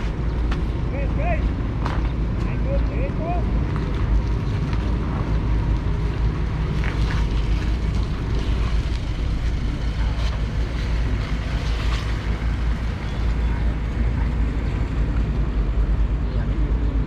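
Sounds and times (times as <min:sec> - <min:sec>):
ferry engine rumbling: 0:00.0 - 0:17.0.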